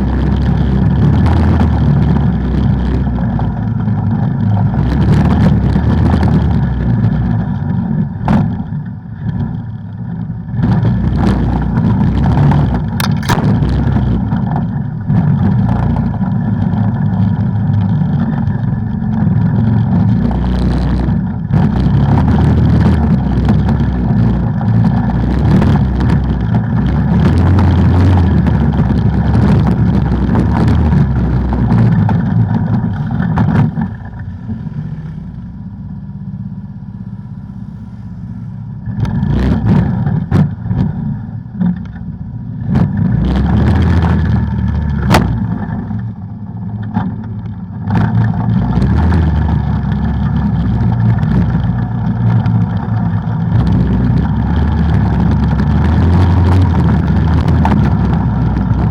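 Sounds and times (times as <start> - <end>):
atv engine running: 0.0 - 58.9
wind rumble on microphone: 0.0 - 58.9.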